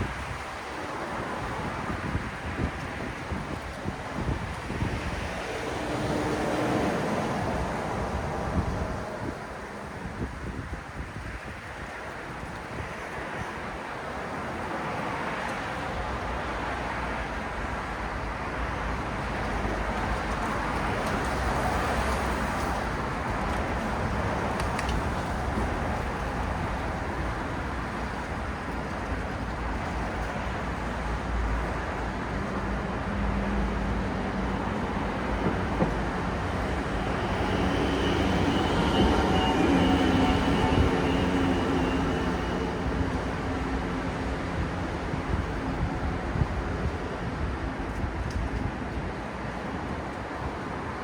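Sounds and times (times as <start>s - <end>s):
road traffic rushing: 0.0s - 12.0s, 12.7s - 51.0s.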